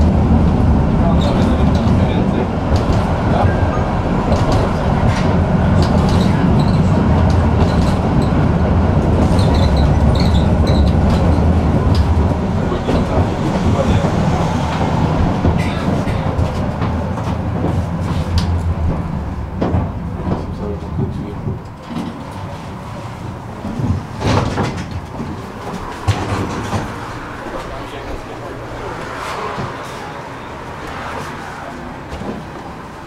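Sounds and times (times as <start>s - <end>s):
tram wheels rumbling on rails: 0.0s - 33.0s.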